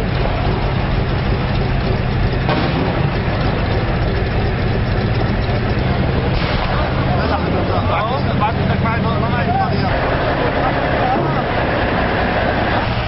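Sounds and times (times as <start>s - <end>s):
heavy vehicle engines droning: 0.0s - 13.0s.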